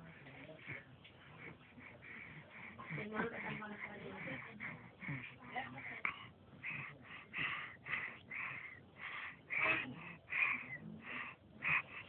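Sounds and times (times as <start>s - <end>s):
child breathing wheezily: 1.3s - 12.0s.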